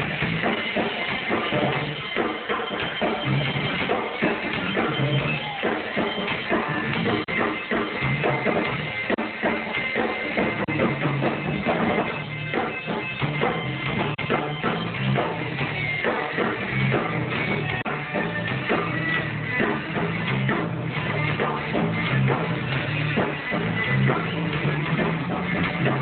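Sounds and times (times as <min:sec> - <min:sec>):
rock band playing instrumental: 0:00.0 - 0:26.0.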